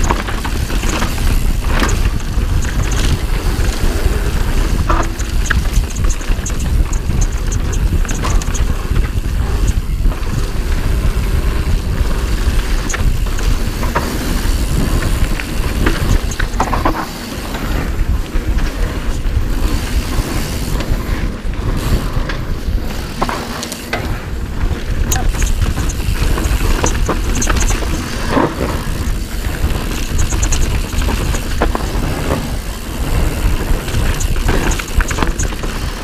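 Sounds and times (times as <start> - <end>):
wind on microphone: 0.0 - 23.2, 23.9 - 36.0
bike clicks and rattles: 0.0 - 36.0
tyres on dirt: 0.0 - 36.0.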